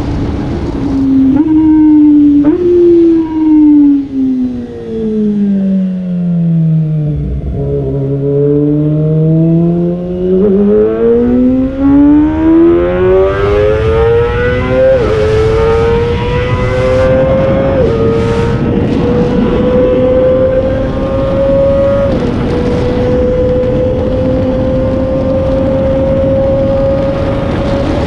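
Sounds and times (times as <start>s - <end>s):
motorcycle engine revving: 0.3s - 28.0s.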